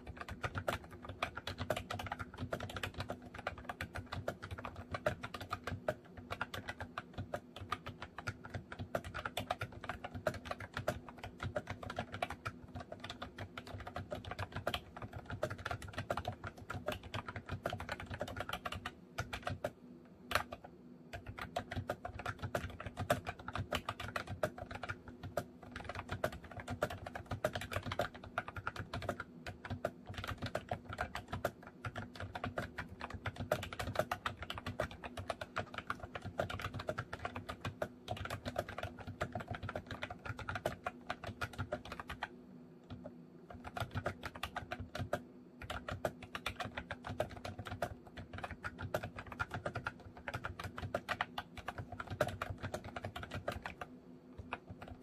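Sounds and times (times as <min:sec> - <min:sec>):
keyboard typing clicks: 0:00.0 - 0:55.0.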